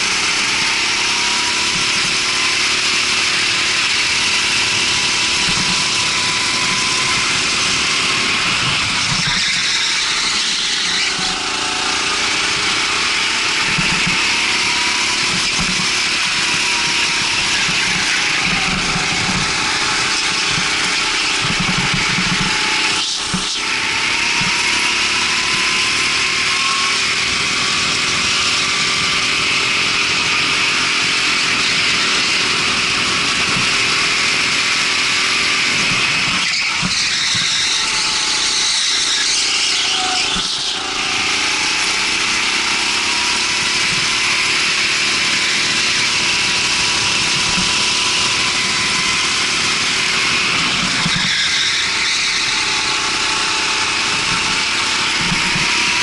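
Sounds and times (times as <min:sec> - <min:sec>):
go-kart engine running flat out: 0:00.0 - 0:56.0.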